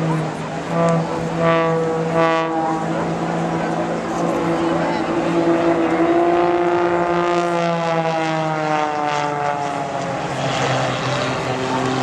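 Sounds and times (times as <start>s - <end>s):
propeller plane engine: 0.0s - 12.0s.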